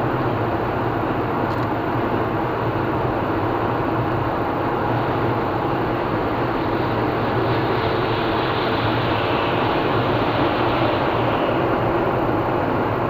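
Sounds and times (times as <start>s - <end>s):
car driving on highway: 0.0s - 13.0s.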